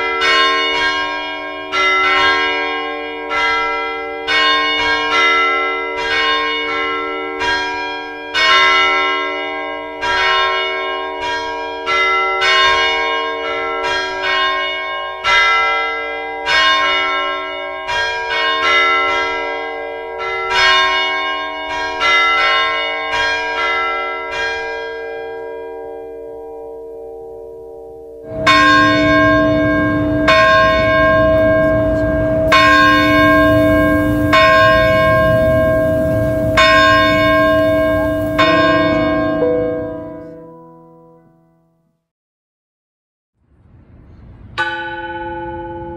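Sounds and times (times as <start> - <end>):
church bells pealing: 0.0 - 41.4, 44.6 - 45.9
background noise: 0.0 - 42.0, 43.4 - 45.9.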